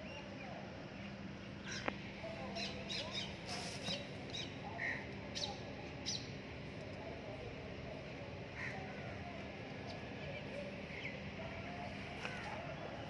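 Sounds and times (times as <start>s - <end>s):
birds chirping: 0.0s - 6.4s, 8.5s - 13.0s
low steady hum: 0.0s - 13.0s.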